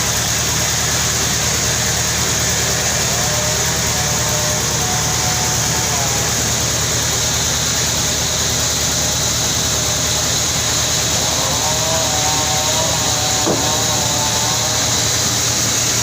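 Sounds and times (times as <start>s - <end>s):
constant high hiss: 0.0s - 16.0s
low motor hum: 0.0s - 16.0s.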